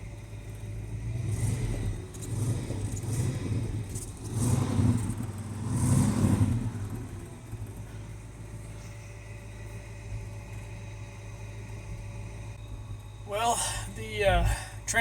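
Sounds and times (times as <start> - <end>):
vehicle engine revving: 0.0 - 12.6.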